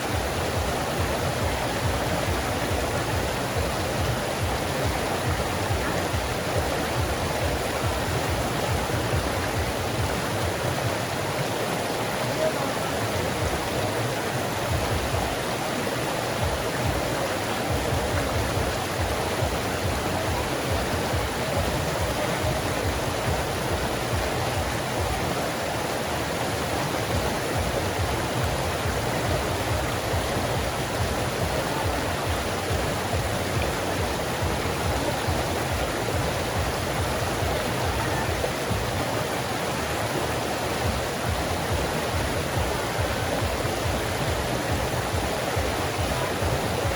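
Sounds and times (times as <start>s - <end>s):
creek water flowing: 0.0s - 46.9s.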